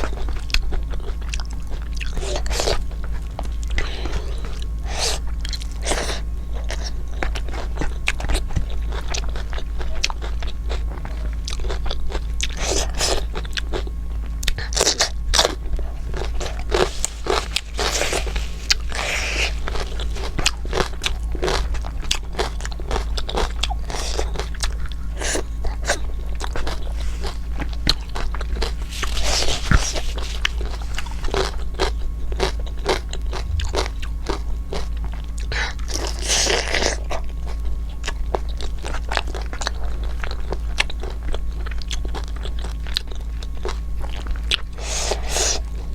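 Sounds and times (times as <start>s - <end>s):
person crunching and chewing food: 0.0s - 45.9s
steady low hum: 0.0s - 45.9s.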